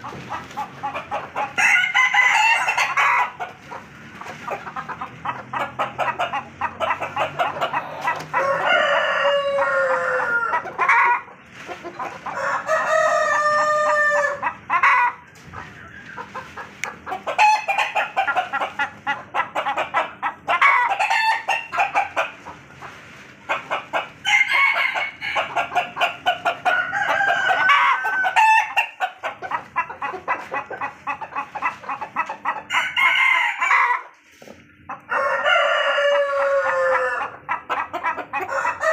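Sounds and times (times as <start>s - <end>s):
roosters crowing: 0.0s - 22.4s, 23.4s - 34.2s, 34.8s - 38.9s
chickens clucking: 0.0s - 38.9s.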